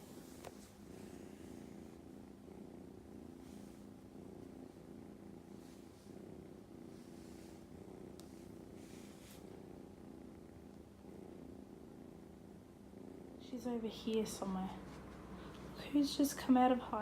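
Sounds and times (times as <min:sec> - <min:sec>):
kitten purring: 0:00.0 - 0:17.0.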